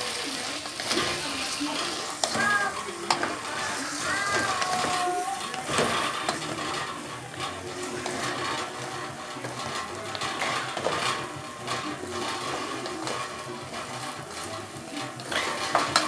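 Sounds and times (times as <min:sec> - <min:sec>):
spoon stirring in pot: 0:00.0 - 0:16.0.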